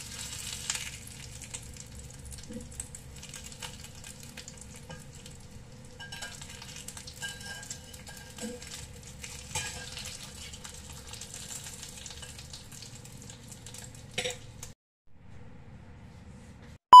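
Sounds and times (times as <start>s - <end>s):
meat patty sizzling in oil: 0.0s - 14.8s.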